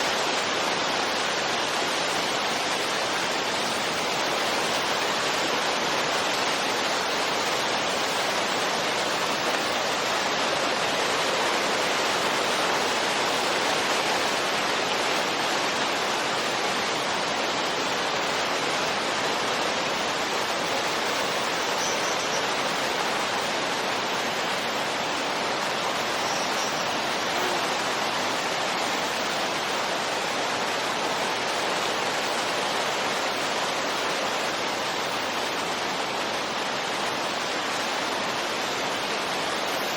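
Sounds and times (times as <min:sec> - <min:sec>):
steady wind hiss: 0:00.0 - 0:39.9.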